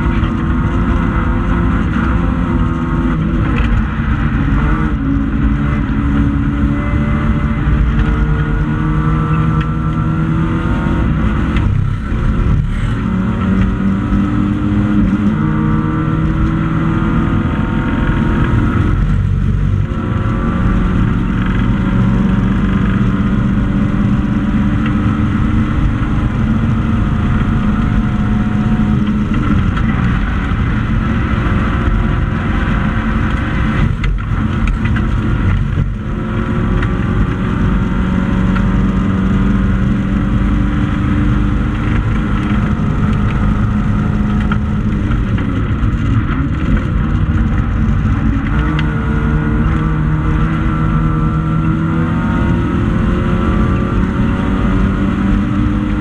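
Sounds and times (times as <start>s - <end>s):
race car engine revving hard: 0.0s - 56.0s.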